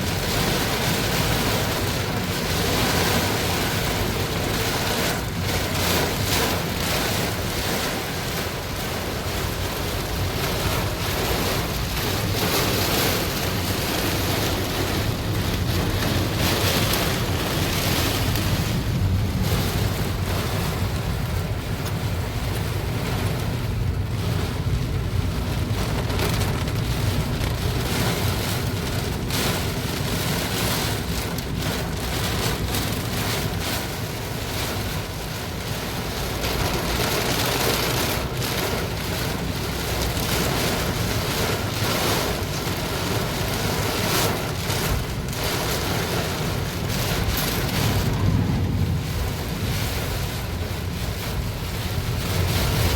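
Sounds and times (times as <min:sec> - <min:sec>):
heavy rain pouring: 0:00.0 - 0:52.9
wind rumbling on microphone: 0:00.0 - 0:52.9.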